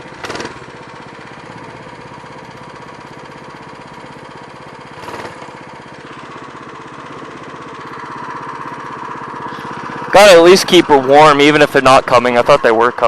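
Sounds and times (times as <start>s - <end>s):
minibike engine idling: 0.0s - 13.0s.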